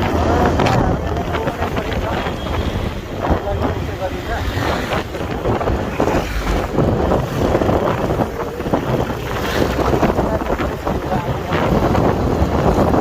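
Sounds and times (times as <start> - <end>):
motorcycle and road rumble: 0.0 - 13.0
wind buffeting microphone: 0.0 - 13.0.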